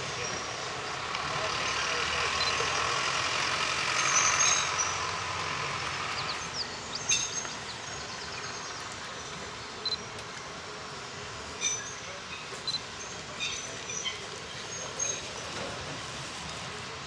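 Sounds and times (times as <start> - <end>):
steam locomotive hiss and rumble: 0.0 - 17.0.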